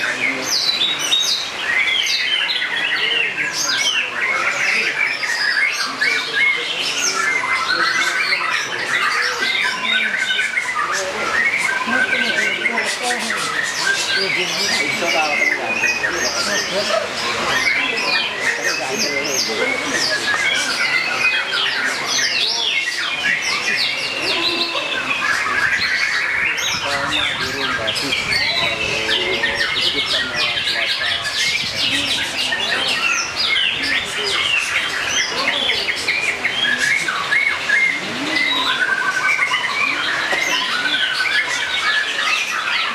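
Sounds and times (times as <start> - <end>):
faint voices: 0.0 - 42.9
songbirds chirping and trilling: 0.0 - 42.9.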